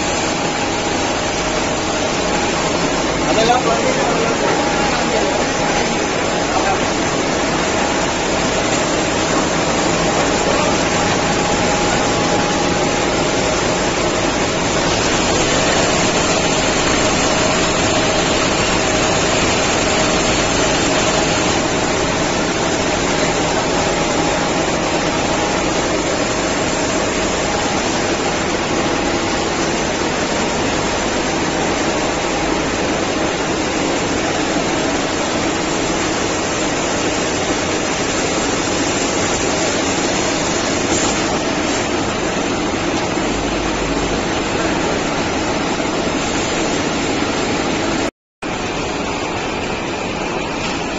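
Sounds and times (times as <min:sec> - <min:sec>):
production line machinery noise: 0:00.0 - 0:50.9.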